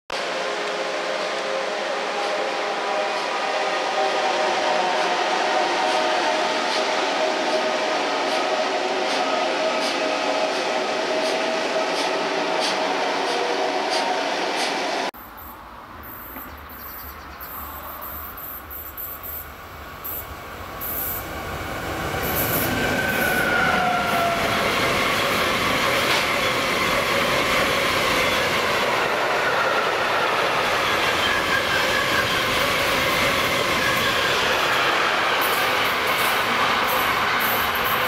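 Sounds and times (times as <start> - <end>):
train wheels rolling on rail: 0.1 - 38.0.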